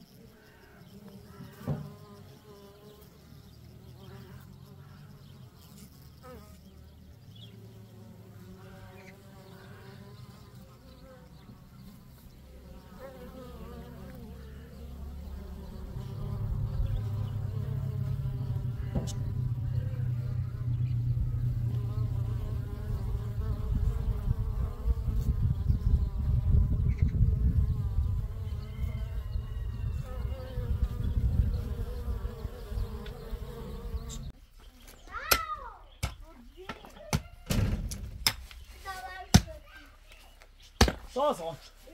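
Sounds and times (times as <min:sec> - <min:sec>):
honeybees buzzing: 0:00.0 - 0:34.4.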